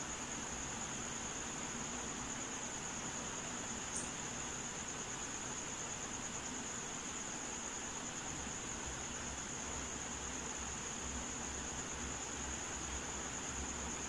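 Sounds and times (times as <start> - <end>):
room noise hiss: 0.0 - 14.0.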